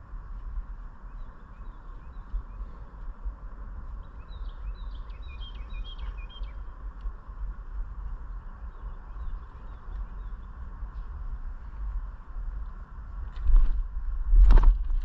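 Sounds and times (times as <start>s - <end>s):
steady low rumble: 0.0s - 15.0s
small birds chirping: 0.2s - 13.1s.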